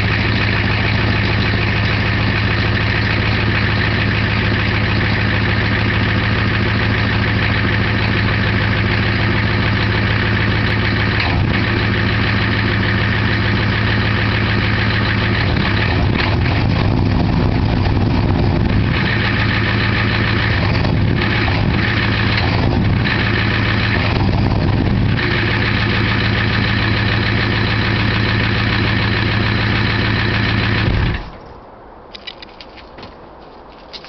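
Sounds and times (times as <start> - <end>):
diesel engine idling: 0.0 - 31.4.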